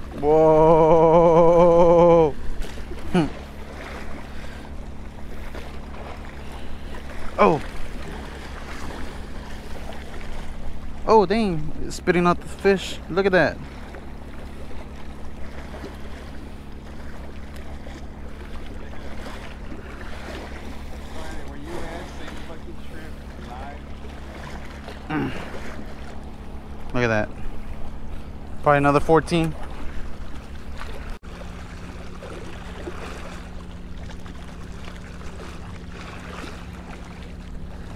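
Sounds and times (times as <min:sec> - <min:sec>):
steady low hum: 0:00.0 - 0:37.9
water lapping: 0:00.0 - 0:37.9
wind: 0:00.0 - 0:37.9.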